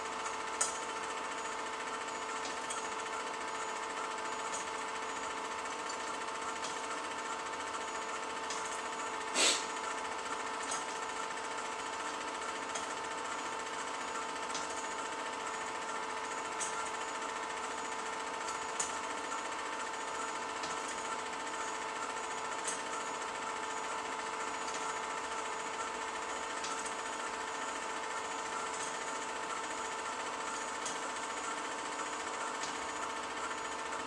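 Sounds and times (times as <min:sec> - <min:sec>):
film projector whirring: 0:00.0 - 0:34.0.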